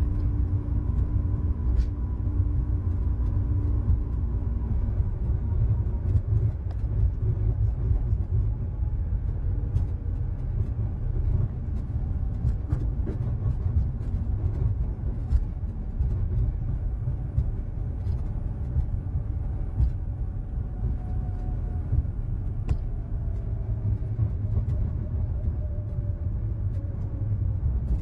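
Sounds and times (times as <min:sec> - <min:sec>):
transit pod rumbling: 0:00.0 - 0:28.0.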